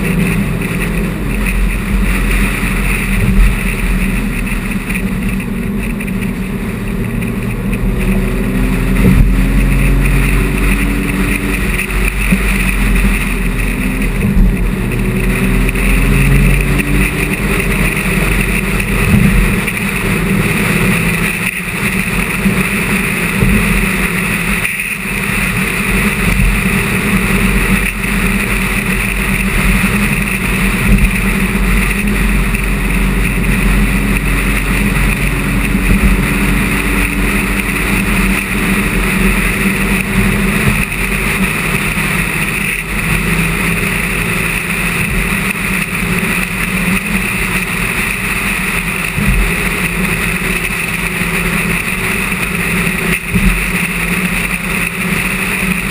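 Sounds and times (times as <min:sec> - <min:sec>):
car engine drone: 0:00.0 - 0:55.9
tyre and road noise: 0:00.0 - 0:55.9.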